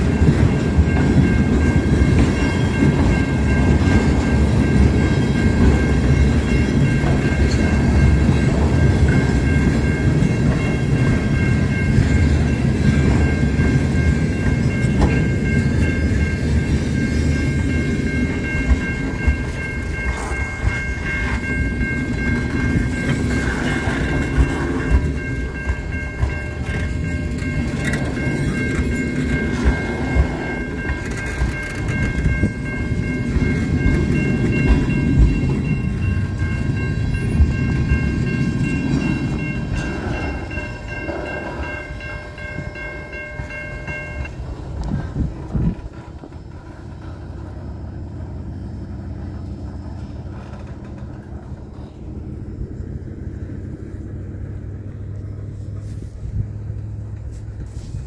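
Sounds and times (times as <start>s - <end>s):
wheels clacking over rail joints: 0.0s - 57.7s
crossing warning bell ringing: 0.0s - 58.0s
freight train wheels rumbling: 0.0s - 58.0s.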